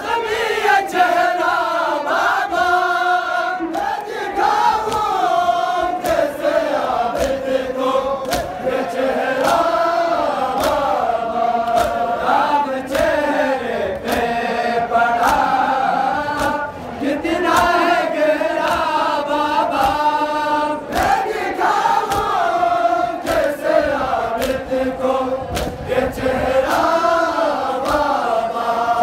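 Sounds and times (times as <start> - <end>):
group chanting a lament: 0.0 - 29.0.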